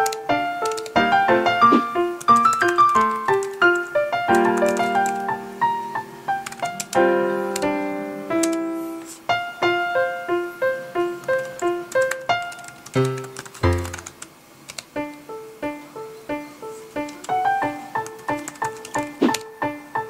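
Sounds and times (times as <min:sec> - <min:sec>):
piano music: 0:00.0 - 0:14.2, 0:14.9 - 0:20.0.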